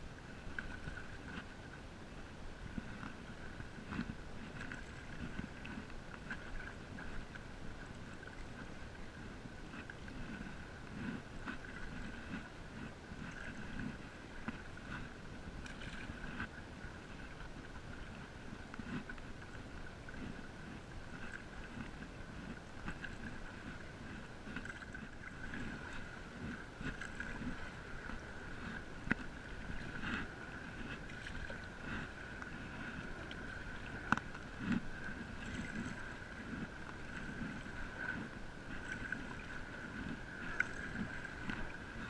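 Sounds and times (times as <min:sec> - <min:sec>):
paddle strokes through water: 0:00.0 - 0:42.0.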